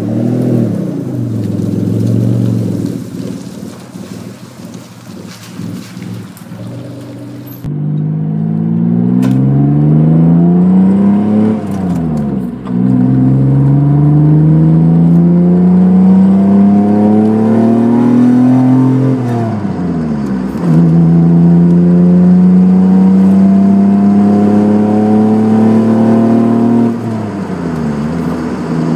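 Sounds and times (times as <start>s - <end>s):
car engine accelerating hard: 0.0s - 28.9s.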